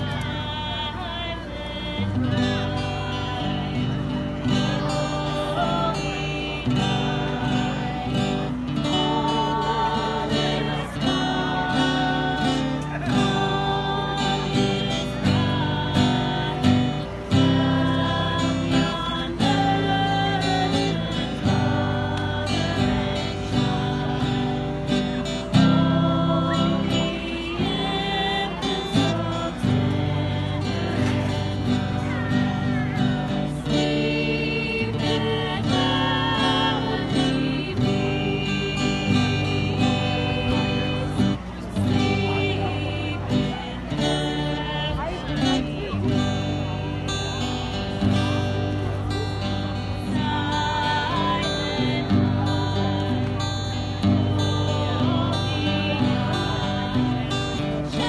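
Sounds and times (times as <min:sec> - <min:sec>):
group singing a carol: 0:00.0 - 0:58.0
strummed guitar: 0:00.0 - 0:58.0.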